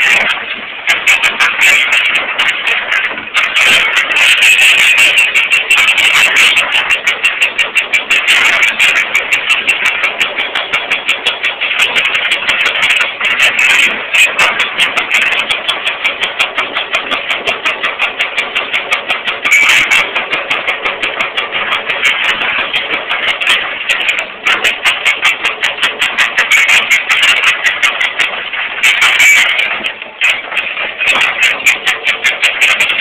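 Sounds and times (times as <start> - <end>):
hydraulic breakers hammering rock: 0.0 - 33.0.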